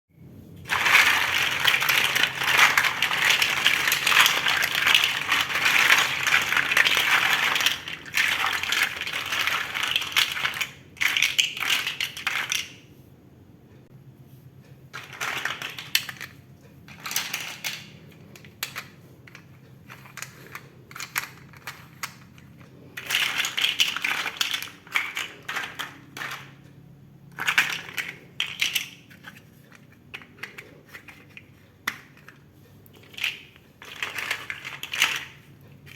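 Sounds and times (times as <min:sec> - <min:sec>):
plastic toy bricks clattering: 0:00.6 - 0:12.9, 0:15.0 - 0:35.9.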